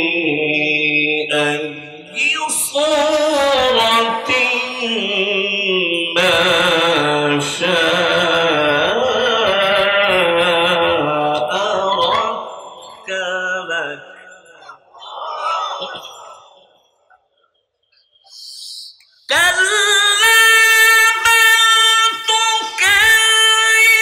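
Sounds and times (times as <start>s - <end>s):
man reciting melodically: 0.0s - 14.8s, 18.3s - 24.0s.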